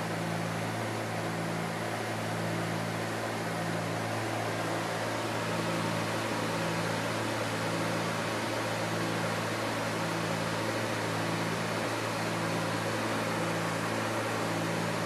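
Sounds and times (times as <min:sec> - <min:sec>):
aircraft cabin engine drone: 0:00.0 - 0:15.0
constant rushing hiss: 0:00.0 - 0:15.0.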